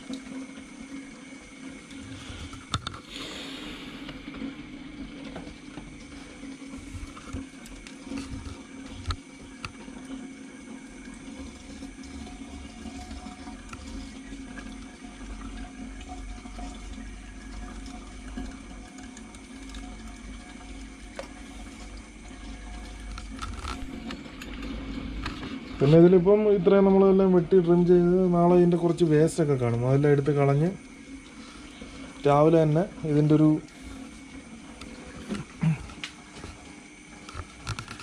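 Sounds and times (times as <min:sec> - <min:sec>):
low steady hum: 0:00.0 - 0:38.0
trickling water: 0:00.0 - 0:38.0.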